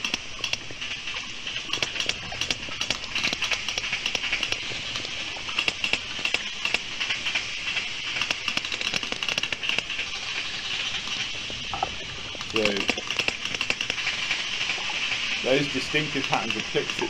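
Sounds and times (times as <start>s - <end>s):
sea noise hiss: 0.0s - 17.0s
whale clicks: 0.0s - 17.0s.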